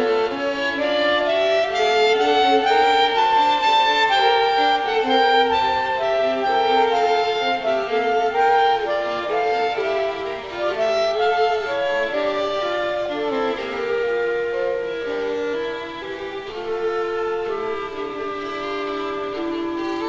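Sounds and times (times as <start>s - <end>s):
bowed string instrument: 0.0s - 20.0s
clarinet: 0.0s - 20.0s
violin: 0.0s - 20.0s.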